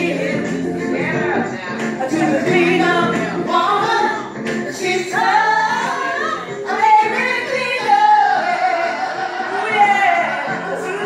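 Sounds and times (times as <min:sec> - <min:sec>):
music with female singing: 0:00.0 - 0:11.0.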